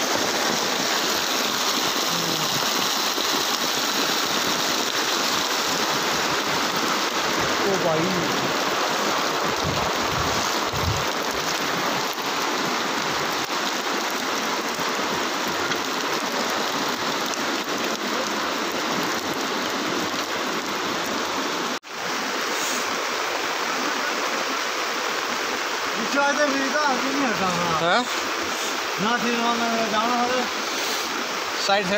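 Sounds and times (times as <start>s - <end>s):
fast-flowing floodwater: 0.0s - 31.9s.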